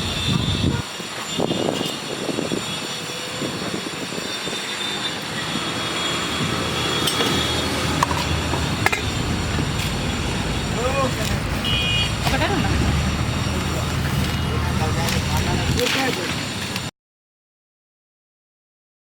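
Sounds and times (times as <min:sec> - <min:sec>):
rumble of passing vehicles: 0:00.0 - 0:16.9.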